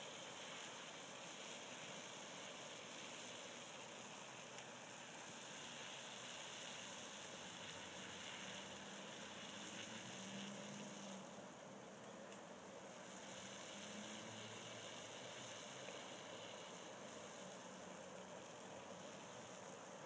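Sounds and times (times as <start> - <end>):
water boiling faint hiss: 0.0 - 20.0.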